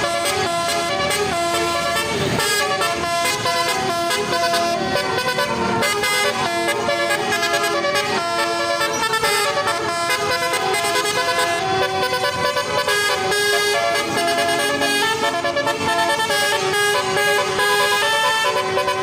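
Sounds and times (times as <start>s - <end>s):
multi-tone bus horn tune: 0.0s - 19.0s.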